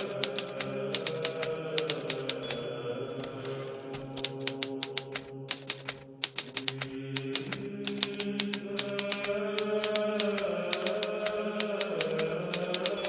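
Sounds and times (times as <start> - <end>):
typewriter keys striking: 0.0 - 13.0.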